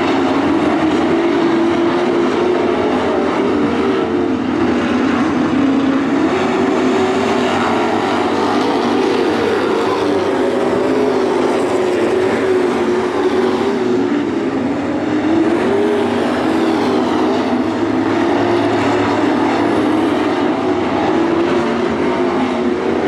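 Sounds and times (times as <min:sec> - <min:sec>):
race truck engines droning: 0:00.0 - 0:23.0.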